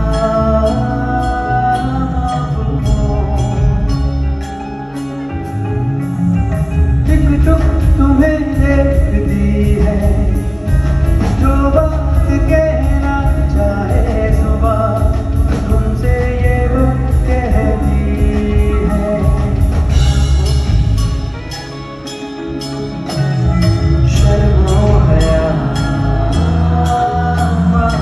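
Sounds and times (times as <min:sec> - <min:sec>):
man singing into microphone: 0:00.0 - 0:04.7, 0:07.0 - 0:20.7, 0:23.0 - 0:28.0
live band with drums and keyboards: 0:00.0 - 0:28.0.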